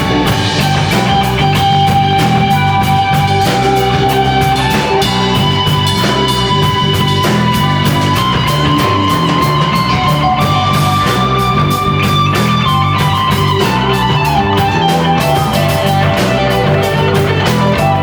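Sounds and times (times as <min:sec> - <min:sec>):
bass line: 0:00.0 - 0:18.0
drums: 0:00.0 - 0:18.0
electric guitar lead notes: 0:00.0 - 0:18.0.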